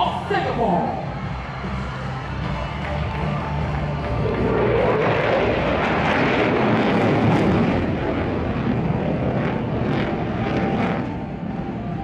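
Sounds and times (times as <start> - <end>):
fighter jet engines roaring: 0.0 - 12.0.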